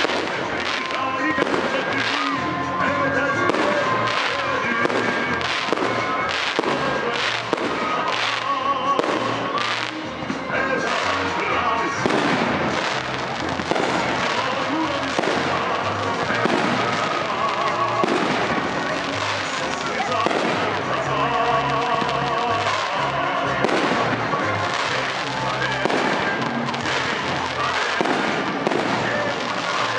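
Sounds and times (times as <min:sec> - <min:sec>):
fireworks bursting: 0:00.0 - 0:29.9
music playing: 0:00.0 - 0:29.9.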